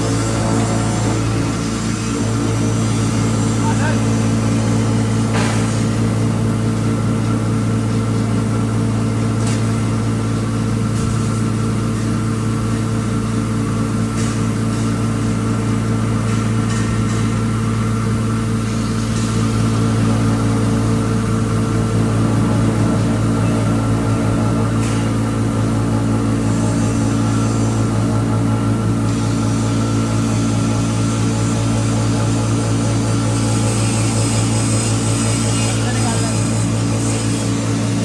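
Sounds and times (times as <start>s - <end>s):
grinding machine humming: 0.0s - 38.0s.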